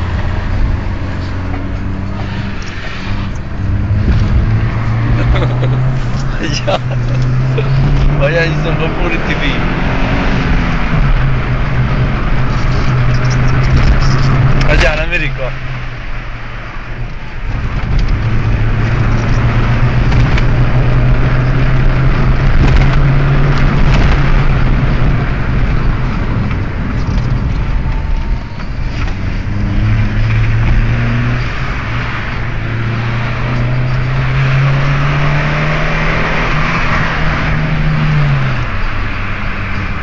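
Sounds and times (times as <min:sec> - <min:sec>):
car engine accelerating: 0:00.0 - 0:40.0
road and wind noise: 0:00.0 - 0:40.0.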